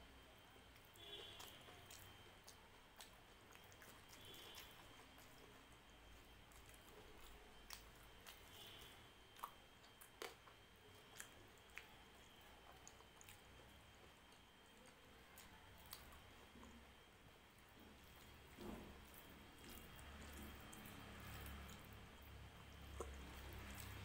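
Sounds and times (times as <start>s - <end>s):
person chewing and squishing food: 0.0s - 24.0s.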